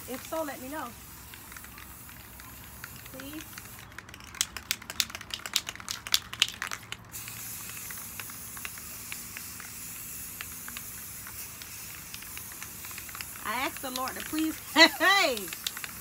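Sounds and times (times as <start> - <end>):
spray can rattling: 0.0 - 16.0
spray paint hissing: 0.0 - 16.0.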